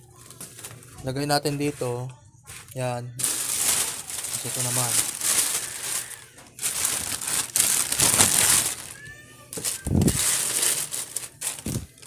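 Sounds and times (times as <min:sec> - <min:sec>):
plastic covers rustling: 0:00.1 - 0:12.0.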